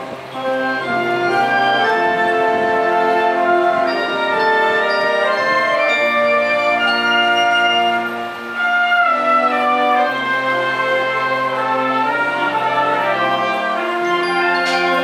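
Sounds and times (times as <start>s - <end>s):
wind band playing held chords: 0.0s - 15.0s.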